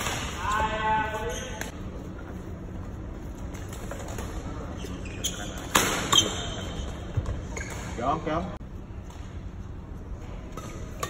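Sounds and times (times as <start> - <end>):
large hall background: 0.0 - 11.0.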